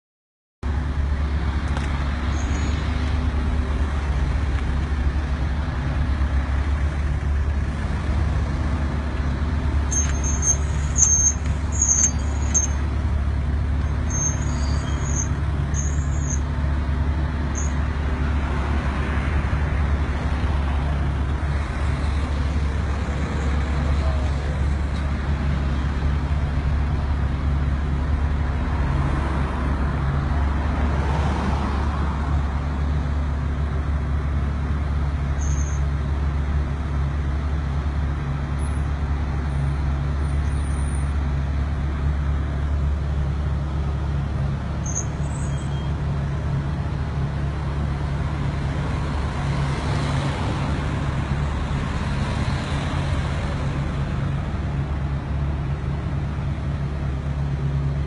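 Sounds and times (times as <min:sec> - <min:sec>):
cars rumbling at low speed: 0:00.6 - 0:58.0.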